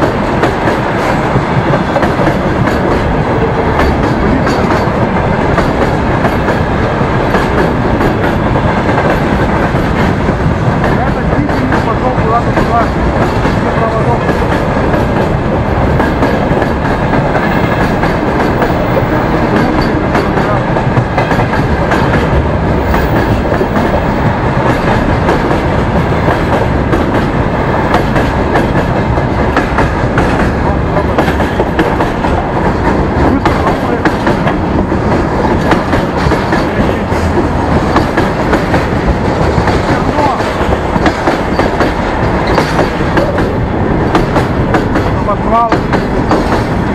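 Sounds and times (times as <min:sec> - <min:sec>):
train wheels clacking on rails: 0:00.0 - 0:46.9.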